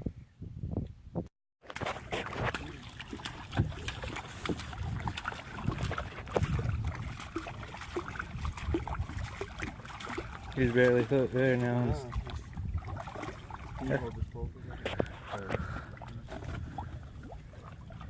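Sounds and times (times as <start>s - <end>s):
wind buffeting microphone: 0.0s - 1.3s, 2.3s - 18.0s
water splashing around kayak: 1.6s - 18.0s.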